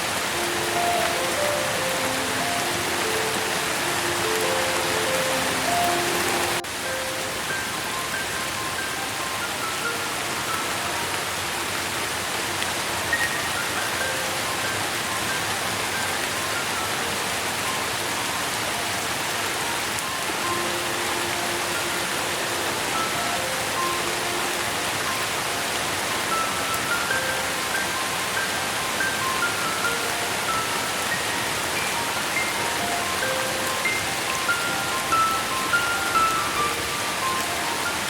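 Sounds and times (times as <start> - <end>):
rain hiss: 0.0 - 38.0
soft sustained music notes: 0.1 - 11.8, 13.2 - 38.0.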